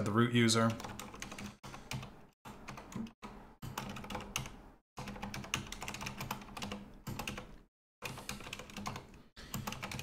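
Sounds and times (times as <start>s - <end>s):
computer keyboard typing: 0.6s - 10.0s.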